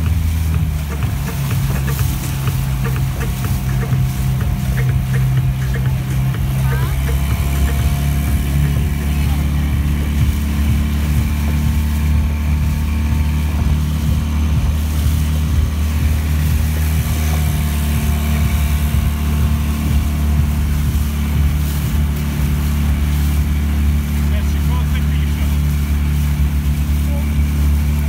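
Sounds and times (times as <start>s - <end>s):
motorboat engine humming: 0.0s - 28.0s.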